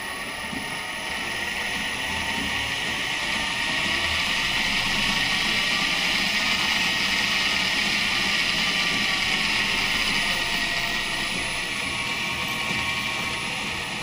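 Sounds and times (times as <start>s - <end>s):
lathe motor whining: 0.0s - 14.0s.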